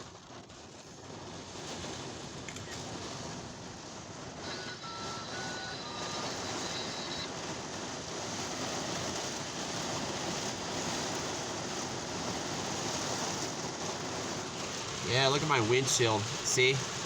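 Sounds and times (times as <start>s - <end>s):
rain on vehicle windshield: 0.0s - 17.0s.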